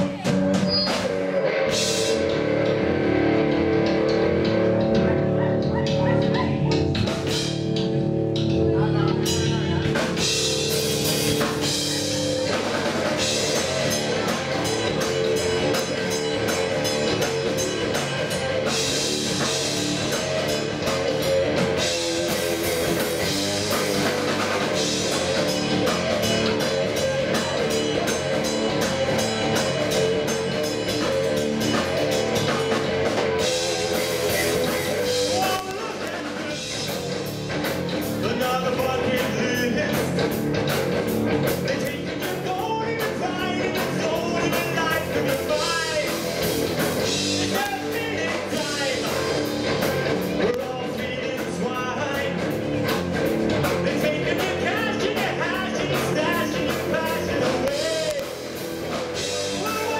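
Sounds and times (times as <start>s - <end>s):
rock band playing loudly: 0.0s - 59.9s.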